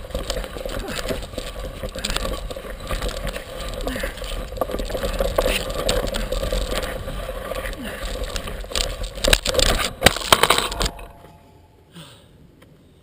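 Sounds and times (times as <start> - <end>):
tyre rumbling over dirt and rocks: 0.0 - 11.5.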